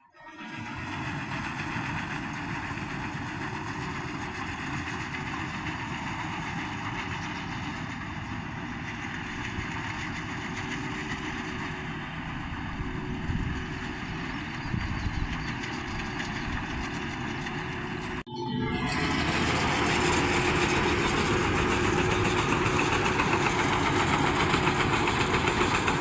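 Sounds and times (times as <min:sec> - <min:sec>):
tractor engine running: 0:00.4 - 0:26.0.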